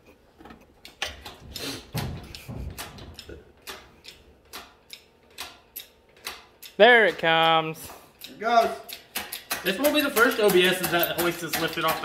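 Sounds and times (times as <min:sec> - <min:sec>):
metallic clicks and knocks: 0:00.4 - 0:12.0.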